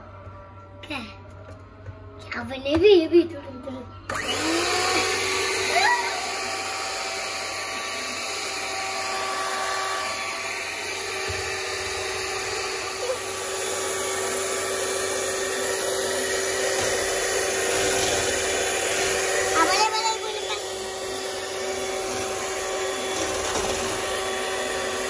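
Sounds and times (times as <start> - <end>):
small electric motor whirring: 4.1 - 25.0.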